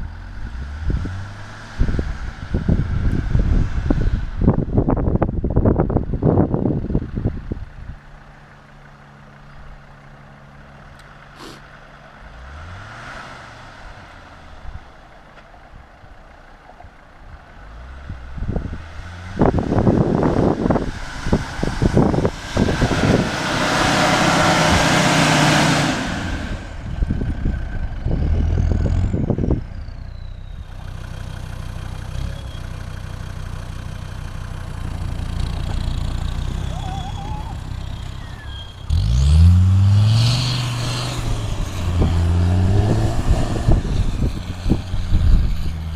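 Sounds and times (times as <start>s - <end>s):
off-road vehicle engine revving: 0.0s - 5.0s, 11.0s - 14.8s, 17.5s - 45.9s.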